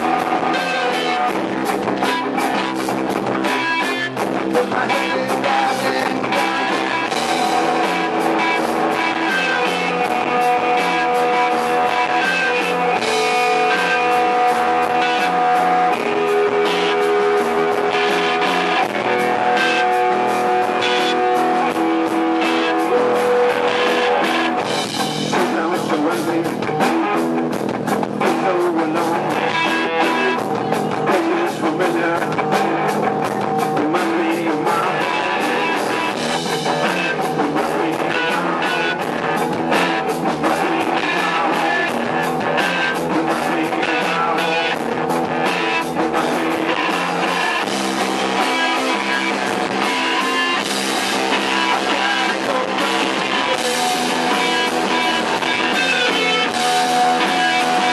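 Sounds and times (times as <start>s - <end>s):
drum kit: 0.0s - 57.9s
electric guitar: 0.0s - 57.9s.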